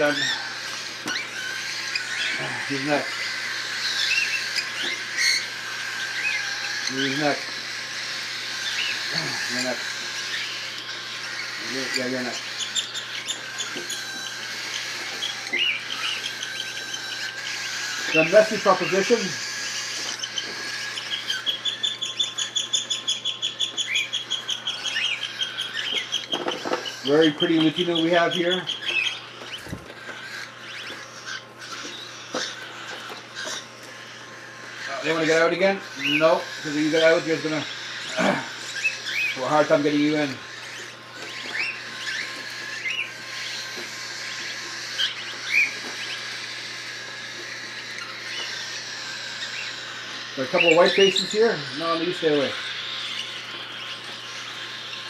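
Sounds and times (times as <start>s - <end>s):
cockatiel chick begging chirps: 0.0s - 55.0s
rising chick calls: 0.0s - 55.0s
steady low hum: 0.0s - 55.0s.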